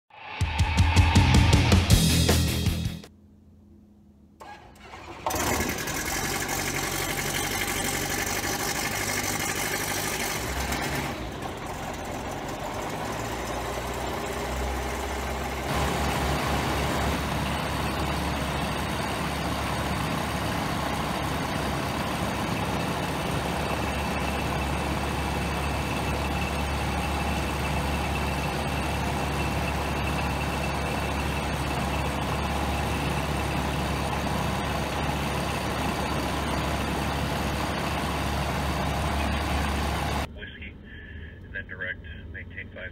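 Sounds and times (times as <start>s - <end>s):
aircraft engine running: 0.8s - 42.9s.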